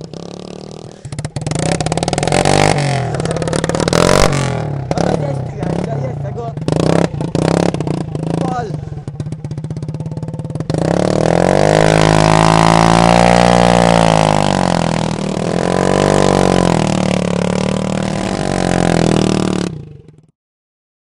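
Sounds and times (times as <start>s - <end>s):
loud scooter engine revving: 0.0s - 20.3s.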